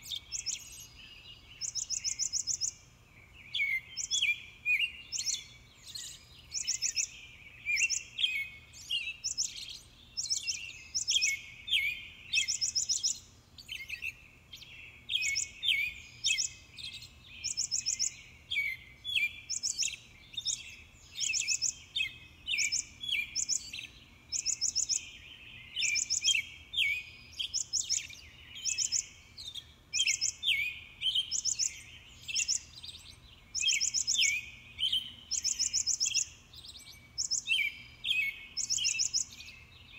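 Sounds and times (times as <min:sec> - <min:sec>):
high-pitched chirping calls: 0:00.0 - 0:02.9, 0:03.5 - 0:14.2, 0:15.2 - 0:25.1, 0:25.7 - 0:39.7.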